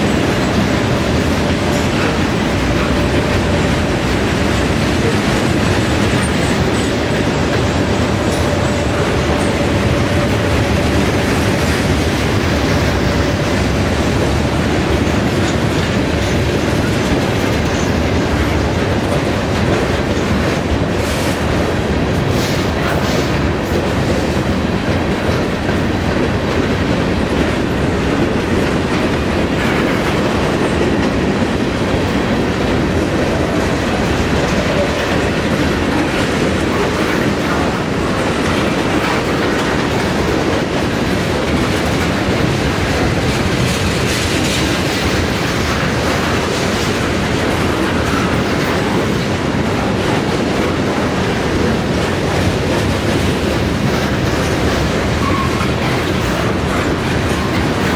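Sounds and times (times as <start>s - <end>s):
train wheels rumbling on rails: 0.0s - 57.9s
wheels clicking over rail joints: 0.0s - 57.9s.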